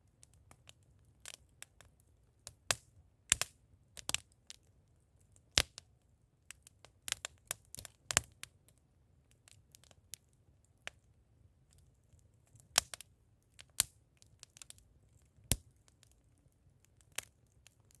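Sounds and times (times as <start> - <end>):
bonfire crackling and popping: 0.1 - 18.0.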